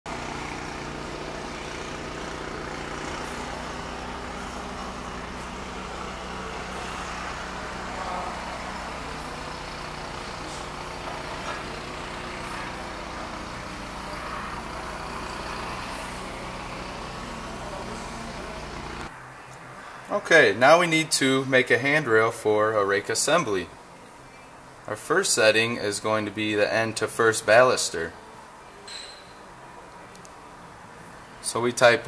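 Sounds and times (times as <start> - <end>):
low machinery hum with hiss: 0.2 - 32.0.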